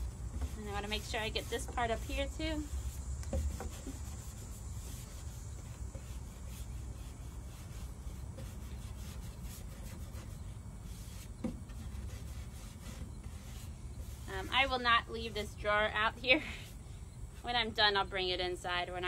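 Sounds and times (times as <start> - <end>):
brush rubbing wax into wood: 0.0 - 15.8.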